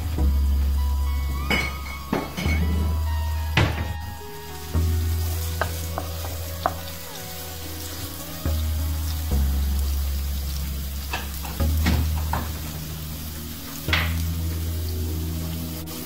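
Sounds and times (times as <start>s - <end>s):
garlic sizzling in a frying pan: 0.0s - 16.0s.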